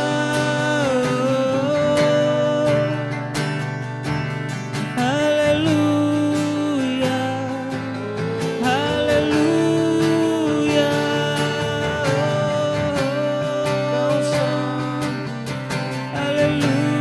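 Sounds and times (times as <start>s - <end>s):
men singing worship song: 0.0s - 3.0s, 5.0s - 15.4s, 16.1s - 17.0s
acoustic guitars strumming: 0.0s - 17.0s.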